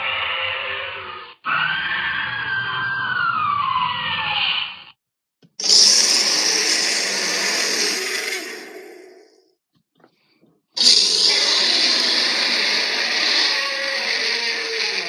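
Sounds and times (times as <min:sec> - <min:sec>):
hissing creature roars: 0:00.0 - 0:04.9, 0:05.6 - 0:09.4, 0:10.8 - 0:15.0.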